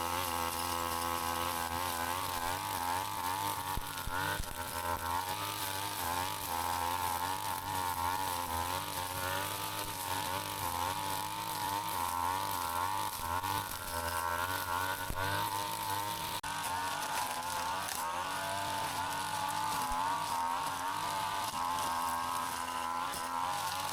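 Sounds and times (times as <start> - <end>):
brush cutter engine running: 0.0 - 23.9.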